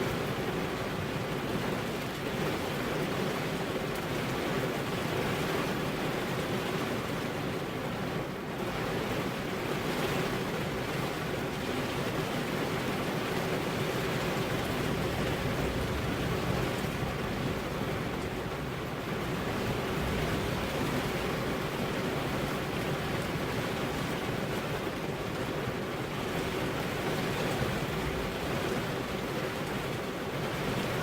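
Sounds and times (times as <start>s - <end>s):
heavy rain on car window: 0.0s - 31.0s.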